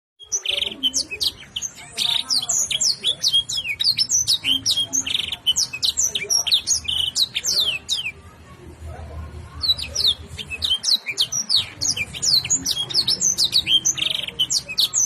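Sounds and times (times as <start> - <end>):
canary singing: 0.2 - 8.3, 9.3 - 15.0.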